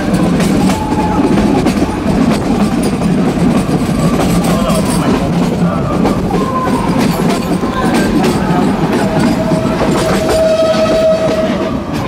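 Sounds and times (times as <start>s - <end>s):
train rumble: 0.0s - 12.0s
wheels clicking over rail joints: 0.0s - 12.0s.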